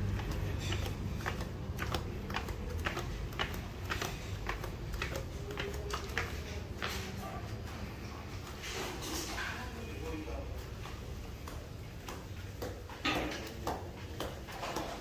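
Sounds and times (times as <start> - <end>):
footsteps going down stairs: 0.0 - 9.2, 10.4 - 15.0.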